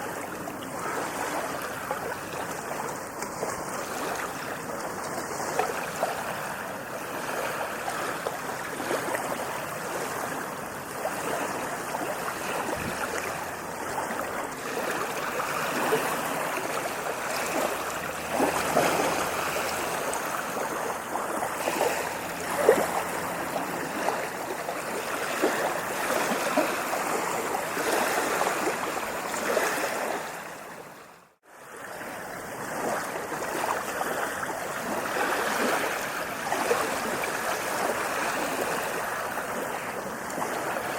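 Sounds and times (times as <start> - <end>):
ocean waves washing on beach: 0.0 - 40.9.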